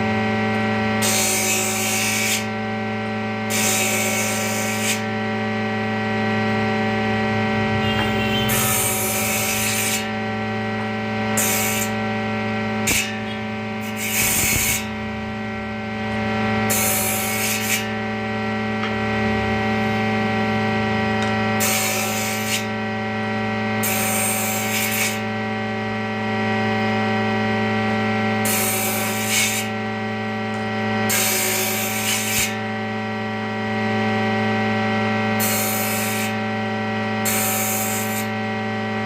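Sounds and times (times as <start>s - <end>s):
motor hum: 0.0s - 39.0s.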